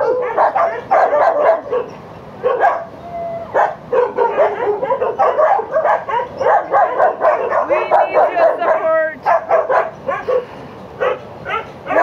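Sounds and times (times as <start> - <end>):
many dogs barking: 0.0 - 12.0.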